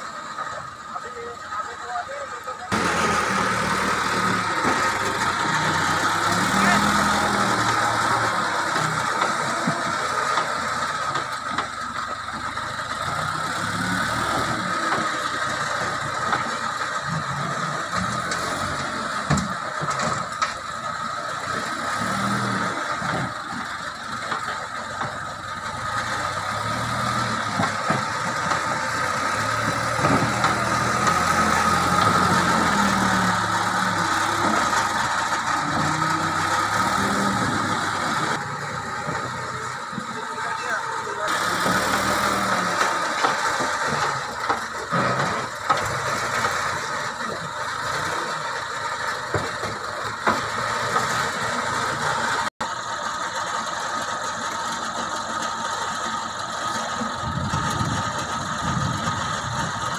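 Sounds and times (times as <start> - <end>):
diesel engine surging: 0.0 - 59.9.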